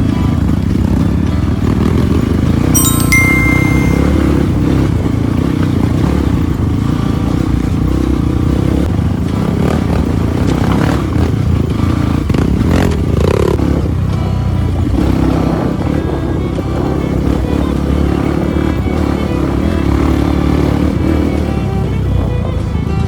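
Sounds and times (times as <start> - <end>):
motorcycle engine running under load: 0.0 - 2.6, 5.0 - 22.9.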